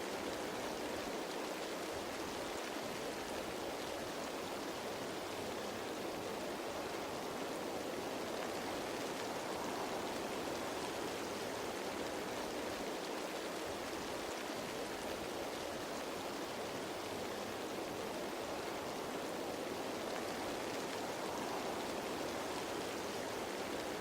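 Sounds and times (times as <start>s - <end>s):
rain pattering on leaves: 0.0s - 24.0s.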